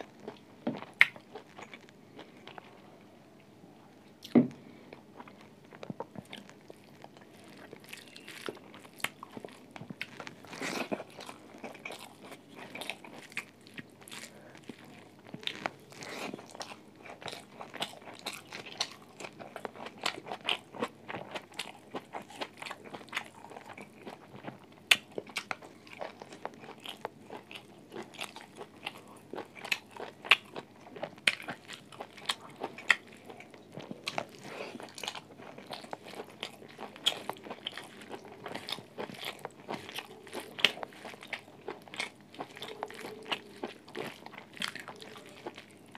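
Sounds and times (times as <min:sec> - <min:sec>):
person biting and chewing: 0:07.4 - 0:45.8.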